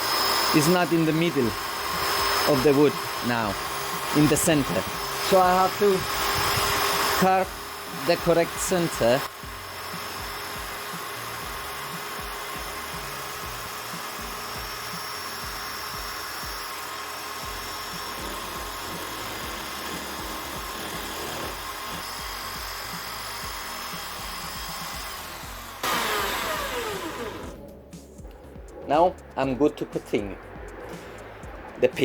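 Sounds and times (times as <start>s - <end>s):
tool cutting wood: 0.0s - 27.6s
wood lathe running: 0.0s - 27.6s.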